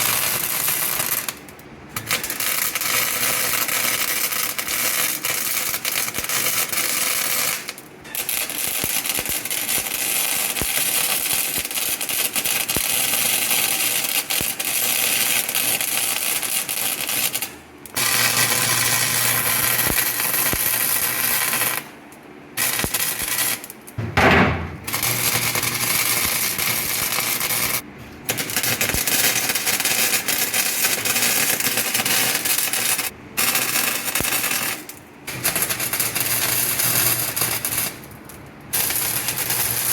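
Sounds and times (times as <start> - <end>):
welding arc crackling: 0.0 - 22.0, 22.6 - 39.9.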